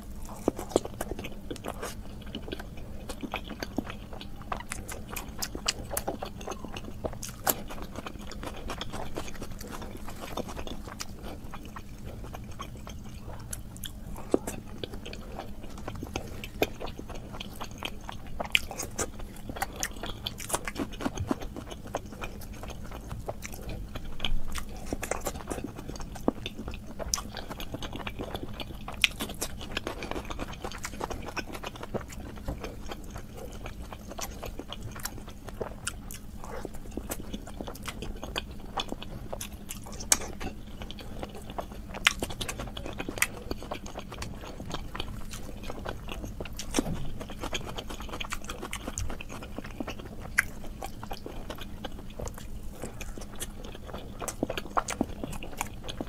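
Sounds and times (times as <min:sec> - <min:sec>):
close chewing and biting: 0:00.0 - 0:56.0.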